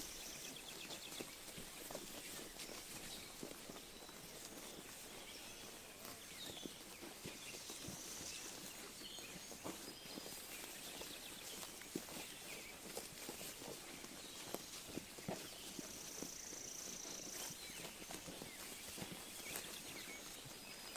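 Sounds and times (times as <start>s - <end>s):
sheep tearing and chewing grass: 0.0s - 20.9s.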